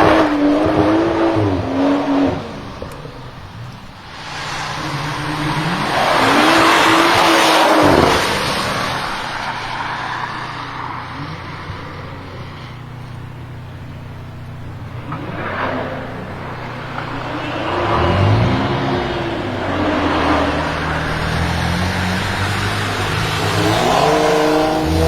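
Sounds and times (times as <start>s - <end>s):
car accelerating past: 0.0s - 25.0s.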